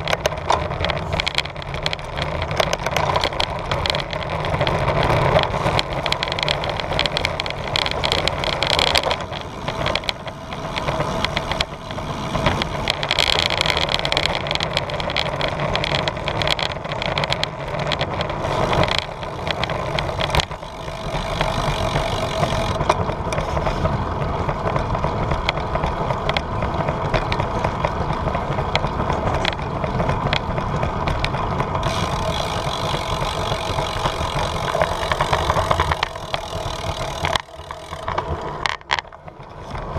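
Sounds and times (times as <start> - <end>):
bicycle rattles and knocks: 0.0 - 39.9
bicycle riding rumble: 0.0 - 39.9.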